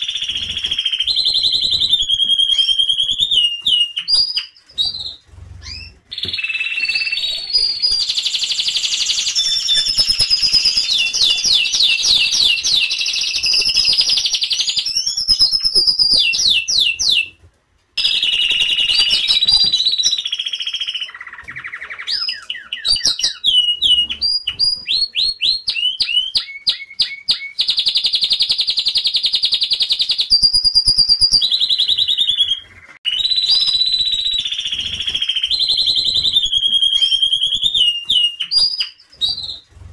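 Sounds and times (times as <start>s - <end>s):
canary singing trills: 0.0s - 17.3s, 18.0s - 39.8s.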